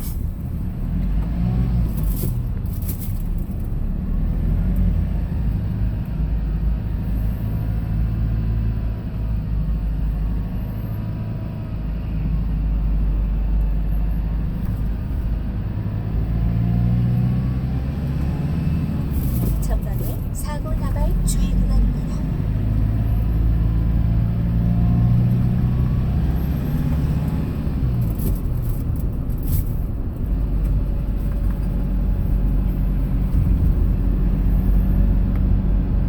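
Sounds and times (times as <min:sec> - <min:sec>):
truck engine rumble: 0:00.0 - 0:36.0.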